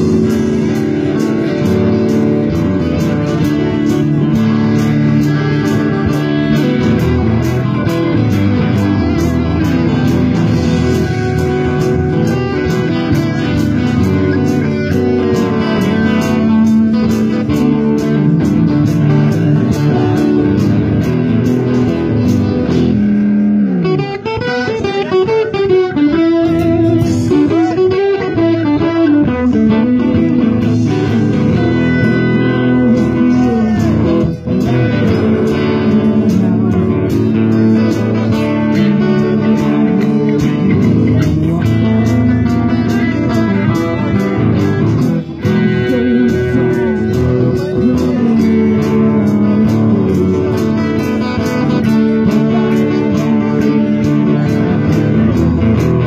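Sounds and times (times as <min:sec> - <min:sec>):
electric guitar lead bending notes: 0:00.0 - 0:56.0
live band playing: 0:00.0 - 0:56.0.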